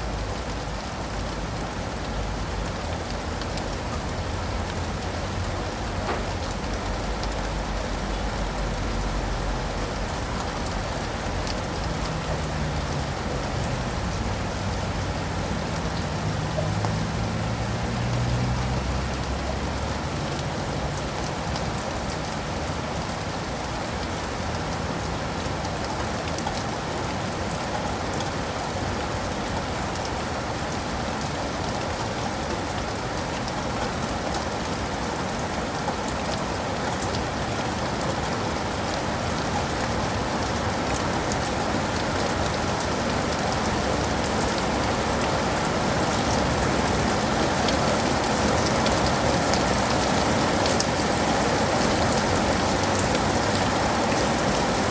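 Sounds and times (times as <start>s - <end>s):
rain on leaves and pavement: 0.0s - 54.9s.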